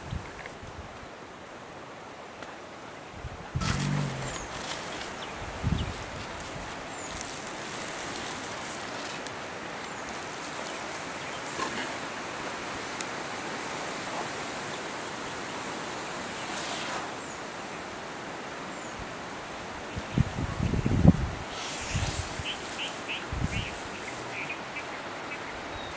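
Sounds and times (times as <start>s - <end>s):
outdoor hiss: 1.0s - 25.9s.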